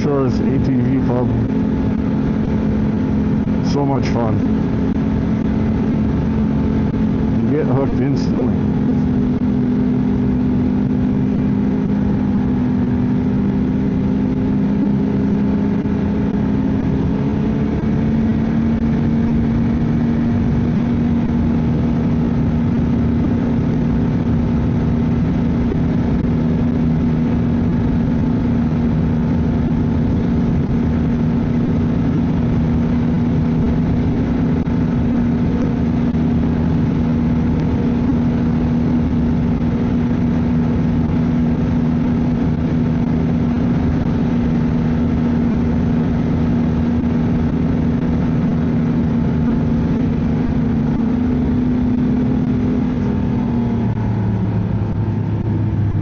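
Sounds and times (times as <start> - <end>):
snowmobile engine droning: 0.0 - 56.0.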